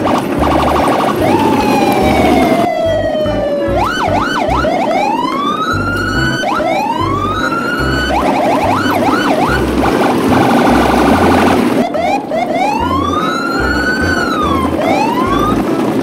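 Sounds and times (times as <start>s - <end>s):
bass beat: 0.0s - 4.8s, 5.7s - 12.2s, 12.8s - 15.7s
falling whistle-like glide: 0.0s - 15.6s
siren-like electronic wails: 0.0s - 16.0s.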